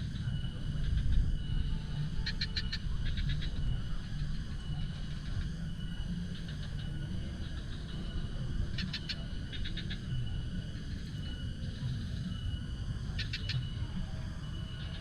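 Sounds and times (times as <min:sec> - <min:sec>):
constant low rumble: 0:00.0 - 0:15.0.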